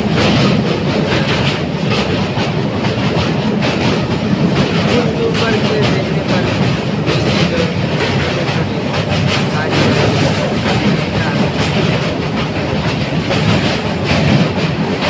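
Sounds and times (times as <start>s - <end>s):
train rumbling over bridge: 0.0s - 15.0s
wheels clattering over rails: 0.0s - 15.0s.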